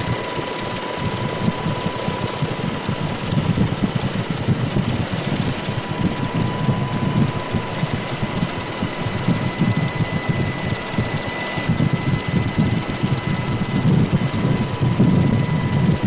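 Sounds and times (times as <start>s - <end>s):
aircraft engine drone: 0.0s - 16.0s
thin steady whine: 0.0s - 16.0s.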